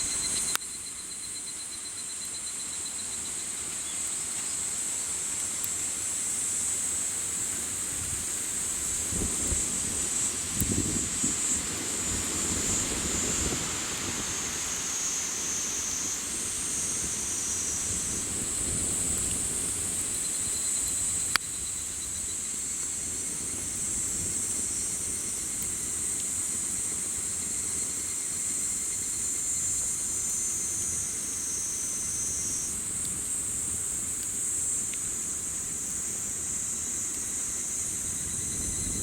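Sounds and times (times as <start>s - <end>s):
campfire crackle: 0.0s - 39.0s
insects shrilling: 0.0s - 39.0s
campfire rustle: 3.2s - 39.0s.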